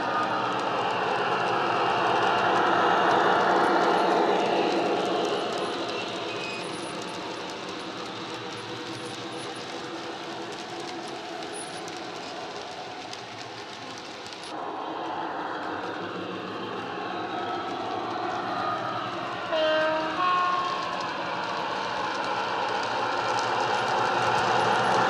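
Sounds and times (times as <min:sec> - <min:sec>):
model wagons clicking over track: 0:00.0 - 0:14.6, 0:15.6 - 0:25.0.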